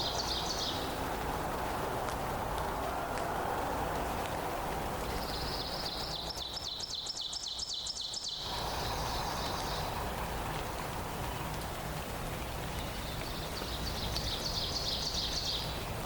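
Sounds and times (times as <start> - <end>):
low rushing background: 0.0 - 7.2, 8.4 - 16.0
songbird singing: 0.0 - 16.0.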